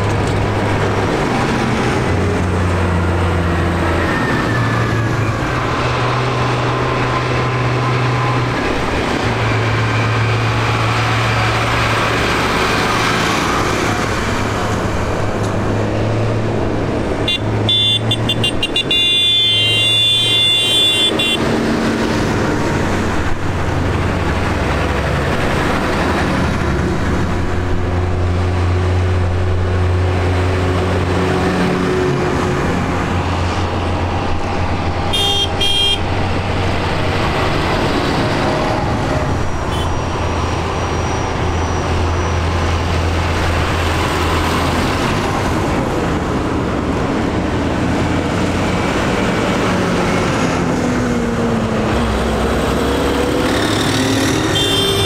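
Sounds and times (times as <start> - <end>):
tractor diesel engines driving past: 0.0 - 55.0.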